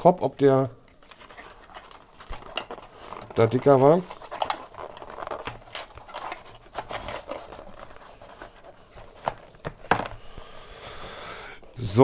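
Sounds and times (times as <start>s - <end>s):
cardboard packaging rustling: 0.0s - 10.4s.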